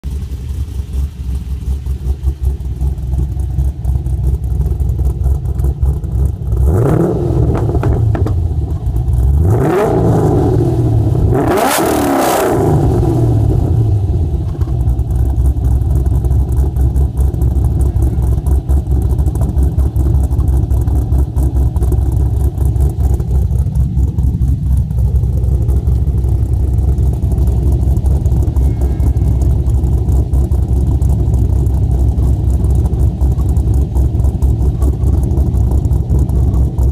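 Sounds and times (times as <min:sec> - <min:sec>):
car engine idling lumpily: 0:00.0 - 0:36.9
car engine revving: 0:00.1 - 0:36.9.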